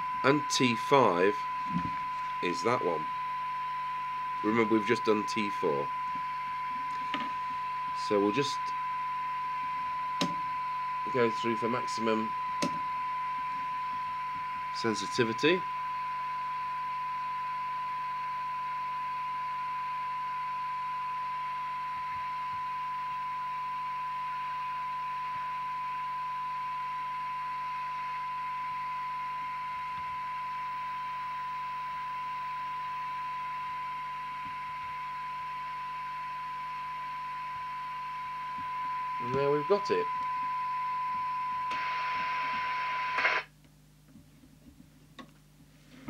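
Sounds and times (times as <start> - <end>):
radio test tone: 0.0 - 15.8, 19.5 - 43.5
receiver noise hiss: 0.0 - 46.0.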